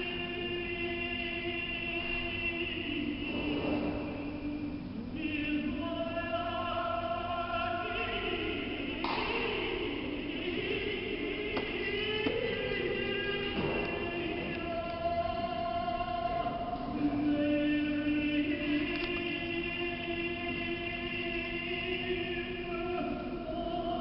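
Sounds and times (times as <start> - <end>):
cantor and choir singing: 0.0 - 24.0.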